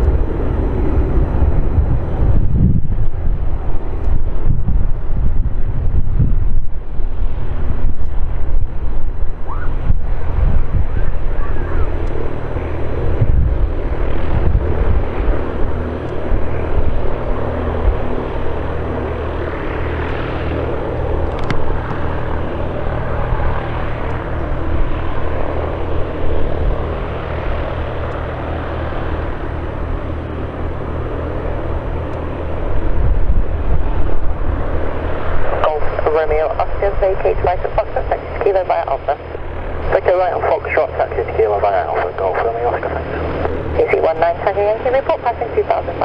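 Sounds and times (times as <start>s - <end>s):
aircraft engine drone: 0.0s - 46.0s.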